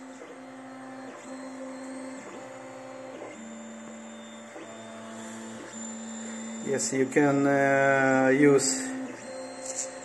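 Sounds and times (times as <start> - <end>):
printer stepper motors whining: 0.0 - 10.0.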